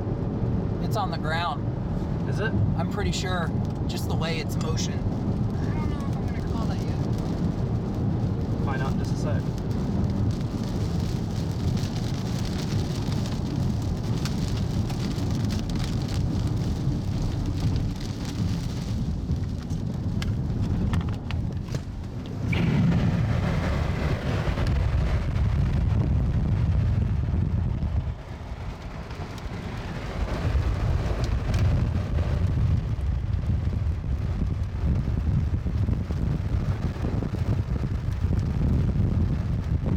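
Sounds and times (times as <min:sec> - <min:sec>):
rain hitting car: 0:00.0 - 0:39.9
tyres rumbling on road: 0:00.0 - 0:39.9.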